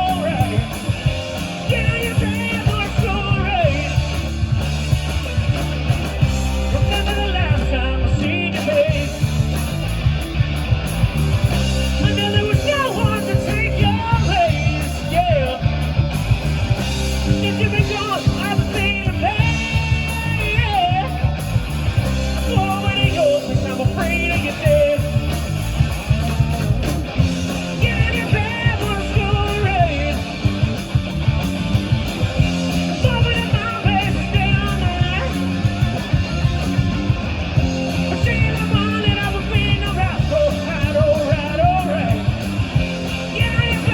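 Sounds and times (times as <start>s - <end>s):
lead singer singing: 0.0s - 9.7s, 11.5s - 15.8s, 16.8s - 31.0s, 32.2s - 43.9s
hard rock band playing: 0.0s - 43.9s.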